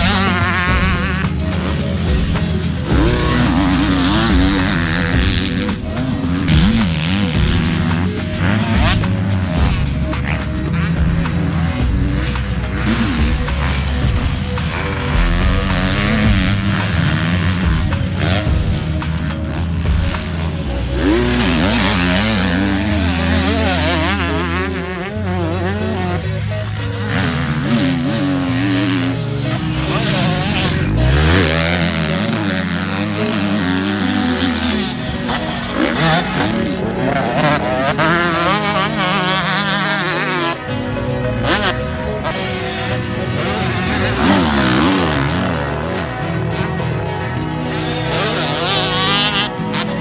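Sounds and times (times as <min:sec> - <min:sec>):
background music: 0:00.0 - 0:50.0
motocross bike engine revving: 0:00.0 - 0:50.0.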